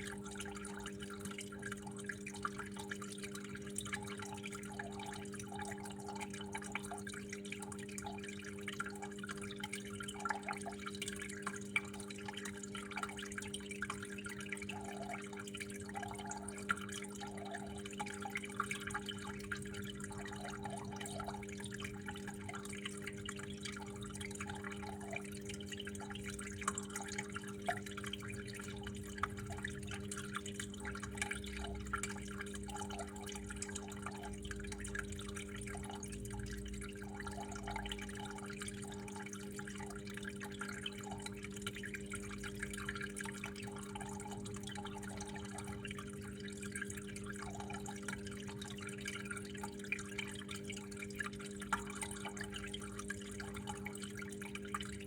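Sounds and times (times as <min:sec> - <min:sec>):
water flowing and dripping: 0:00.0 - 0:55.0.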